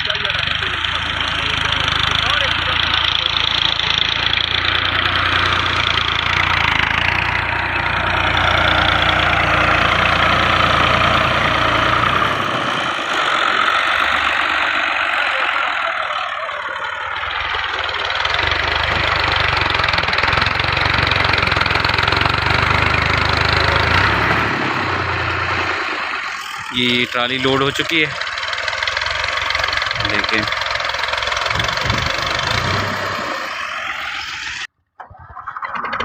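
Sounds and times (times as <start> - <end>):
tractor diesel engine running: 0.0 - 34.7.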